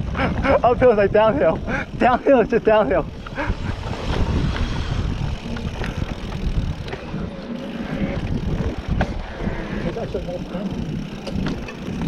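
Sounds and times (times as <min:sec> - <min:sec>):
bike rattling: 0:00.0 - 0:12.0
bike tyres rumbling on dirt: 0:00.0 - 0:12.0
wind buffeting microphone: 0:00.0 - 0:12.0.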